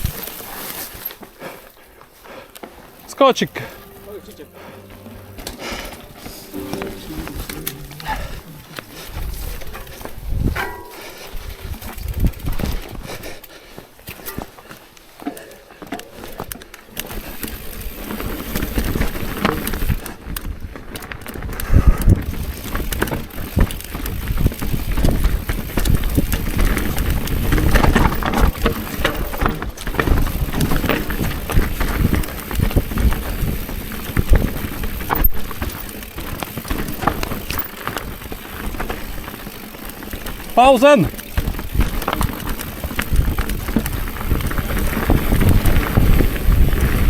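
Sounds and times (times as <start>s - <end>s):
bicycle rattling over rough ground: 0.0s - 47.0s.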